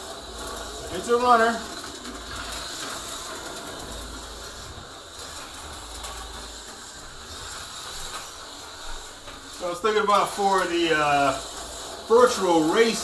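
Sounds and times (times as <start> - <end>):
slot car motor whirring: 0.0 - 13.0.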